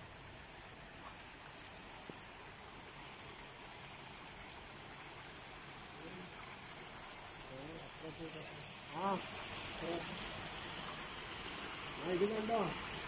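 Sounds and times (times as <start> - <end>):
water trickling over stones: 0.0 - 13.0.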